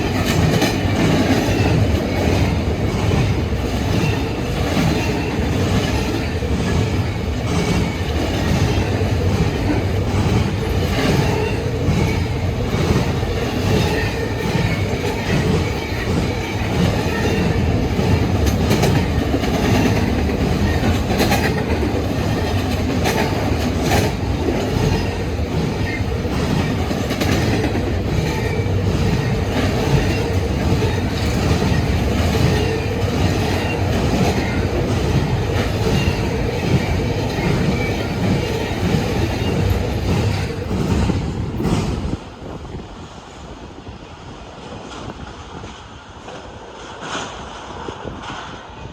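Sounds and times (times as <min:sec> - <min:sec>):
wheels clicking over rail joints: 0:00.0 - 0:42.2
freight train cars rumbling past: 0:00.0 - 0:48.9.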